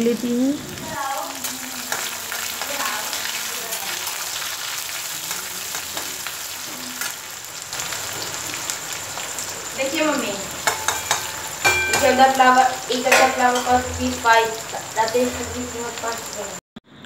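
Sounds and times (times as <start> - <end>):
onions sizzling in oil: 0.0 - 16.6.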